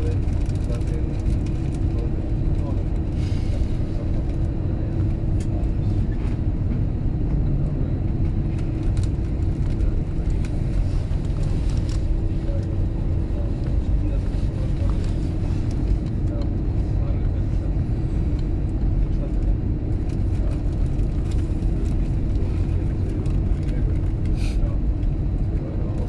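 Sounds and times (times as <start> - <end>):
constant hum: 0.0 - 26.0
jet engines rumbling: 0.0 - 26.0.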